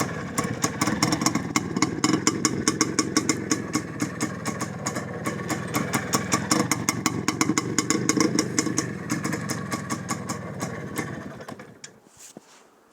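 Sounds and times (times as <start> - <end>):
two-stroke engine popping: 0.0 - 12.0.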